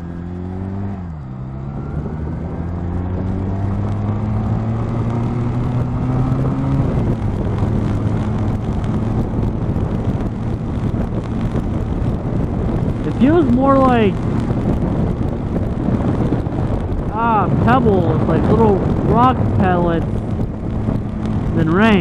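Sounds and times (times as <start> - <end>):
motorcycle engine: 0.0 - 22.0
wind and rain noise: 0.0 - 22.0.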